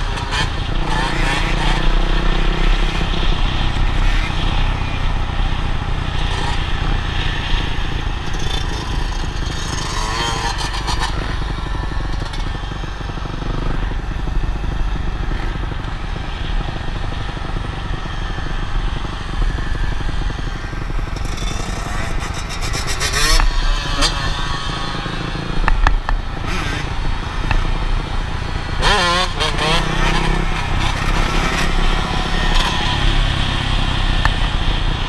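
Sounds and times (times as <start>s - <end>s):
dirt bike engines running: 0.0s - 35.0s.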